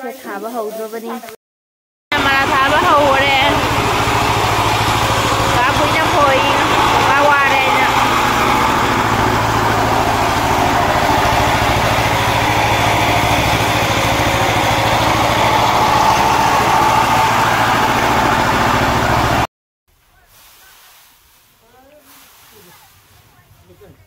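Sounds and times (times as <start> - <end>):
diesel engine running: 2.1 - 24.0.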